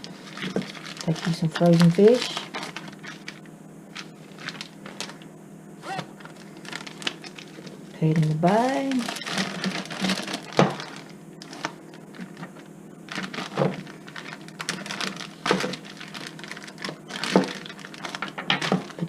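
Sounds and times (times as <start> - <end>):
plastic bag crinkling: 0.0 - 5.3, 5.9 - 19.0.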